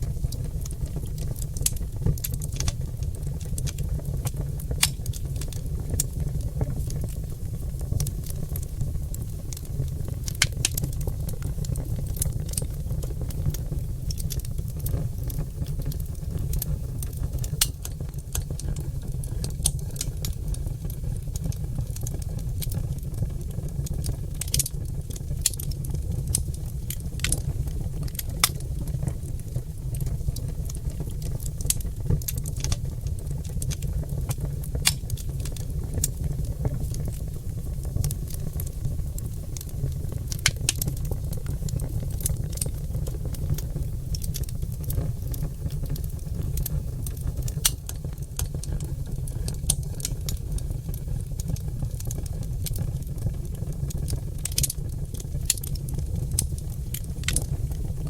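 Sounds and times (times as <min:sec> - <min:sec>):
logs crackling and popping: 0:00.0 - 0:58.0
low rumble of fire: 0:00.0 - 0:58.0.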